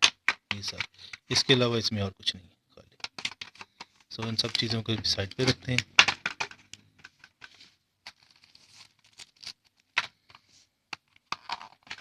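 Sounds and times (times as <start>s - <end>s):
clicks and rustles of packaging: 0.0s - 1.5s, 2.9s - 12.0s.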